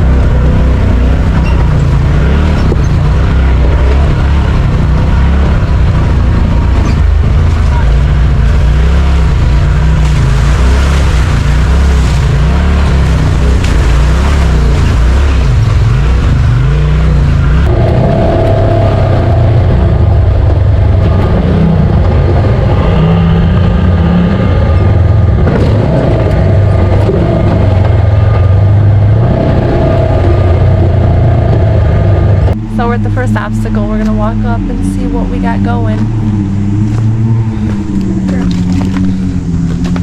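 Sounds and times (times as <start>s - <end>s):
utility vehicle engine running: 0.0s - 40.0s.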